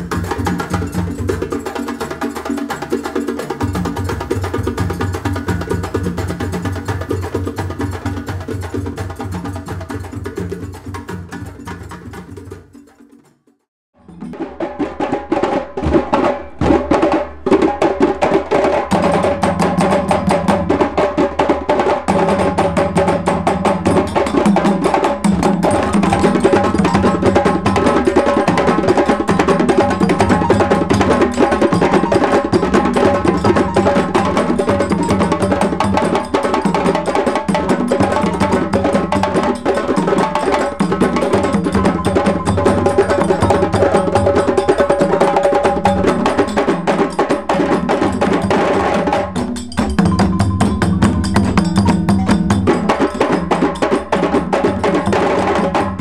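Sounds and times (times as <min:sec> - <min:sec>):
djembe drumming ensemble: 0:00.0 - 0:56.0.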